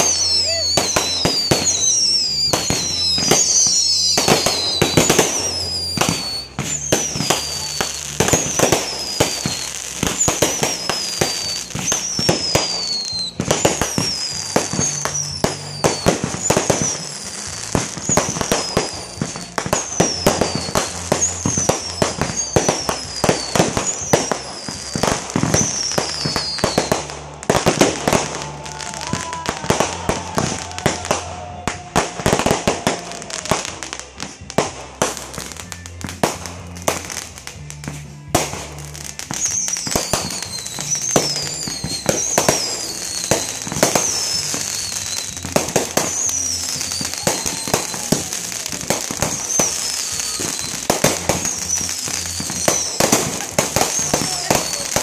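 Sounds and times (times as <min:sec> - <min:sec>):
falling firework whistles: 0:00.0 - 0:55.0
fireworks bangs and crackles: 0:00.0 - 0:55.0.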